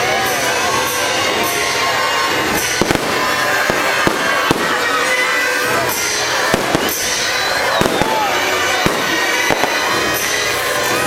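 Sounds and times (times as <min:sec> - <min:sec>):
fireworks bursting: 0:00.0 - 0:11.0
music: 0:00.0 - 0:11.0.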